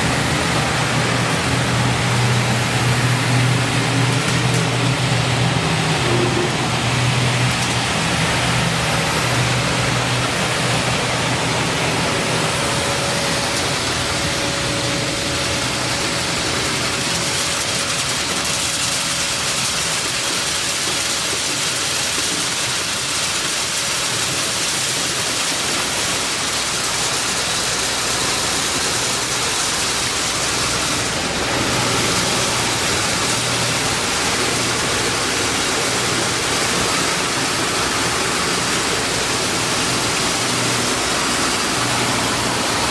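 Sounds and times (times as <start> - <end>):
milling machine running: 0.0 - 42.9.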